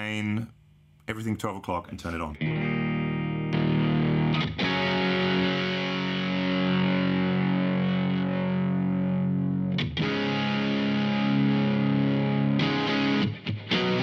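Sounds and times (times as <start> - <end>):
overdriven electric guitar chords: 2.4 - 14.0.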